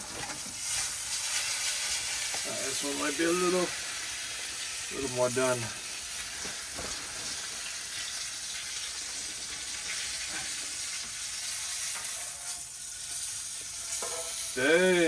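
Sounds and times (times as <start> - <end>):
steak sizzling in a pan: 0.0 - 15.0.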